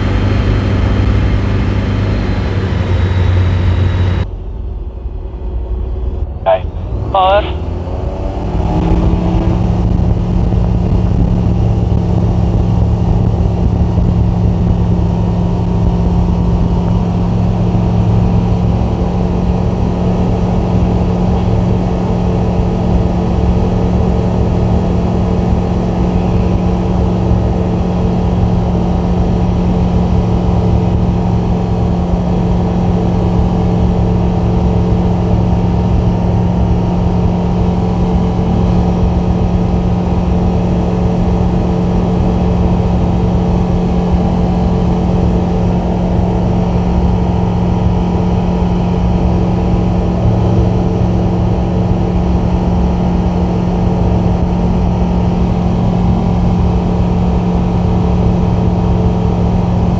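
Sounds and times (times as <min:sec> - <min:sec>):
light aircraft engine and propeller drone: 0:00.0 - 0:59.9.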